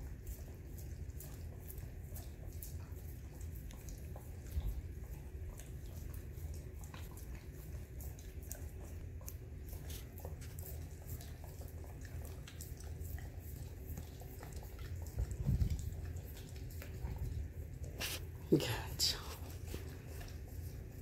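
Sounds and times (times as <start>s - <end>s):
dogs licking wet clicks: 0.0s - 21.0s
steady low hum: 0.0s - 21.0s.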